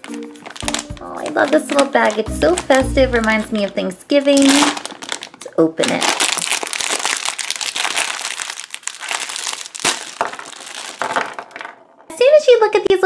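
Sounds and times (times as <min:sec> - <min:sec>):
plastic bag snapping: 0:00.0 - 0:11.7
plastic bag crinkling: 0:00.0 - 0:11.9.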